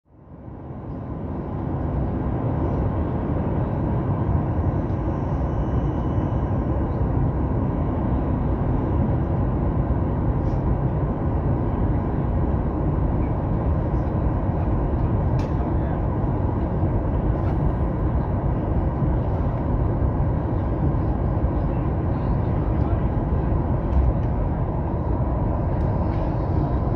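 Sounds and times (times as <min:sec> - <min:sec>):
airplane cabin noise: 0:00.1 - 0:26.9.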